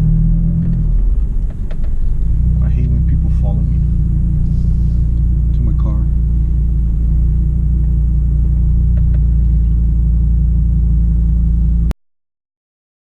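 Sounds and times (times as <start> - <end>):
car rumble heard from inside: 0.0 - 11.9.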